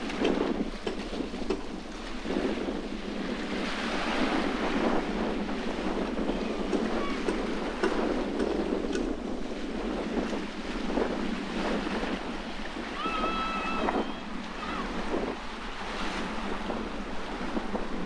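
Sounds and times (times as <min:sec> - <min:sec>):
gusting wind: 0:00.0 - 0:18.0
sea waves washing on shore: 0:00.0 - 0:18.0
wind buffeting microphone: 0:00.0 - 0:18.0.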